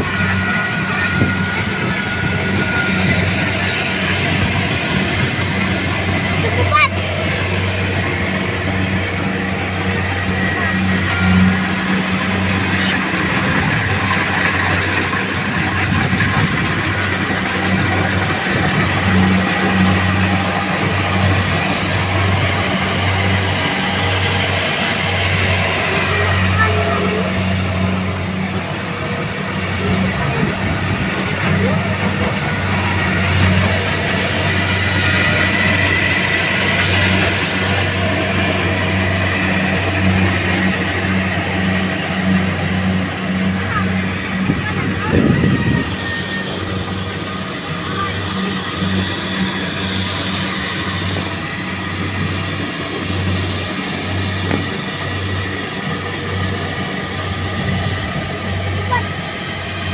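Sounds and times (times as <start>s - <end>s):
combine harvester engine hum: 0.0s - 59.9s
machinery noise: 0.0s - 59.9s
mechanical rush: 0.0s - 59.9s.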